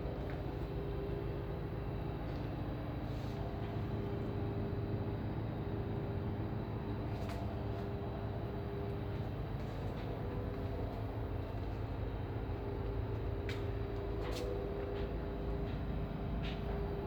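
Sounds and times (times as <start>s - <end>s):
ship engines droning: 0.0s - 17.0s.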